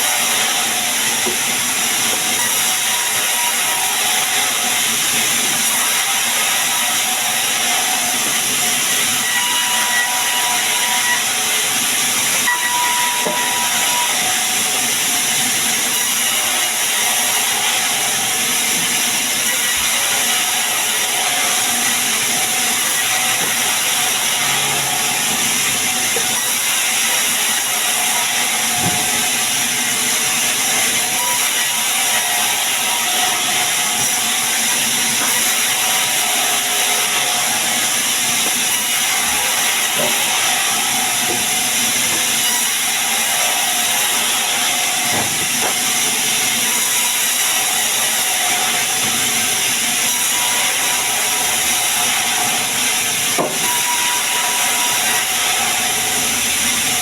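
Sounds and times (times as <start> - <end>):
sawmill saw cutting wood: 0.0 - 57.0.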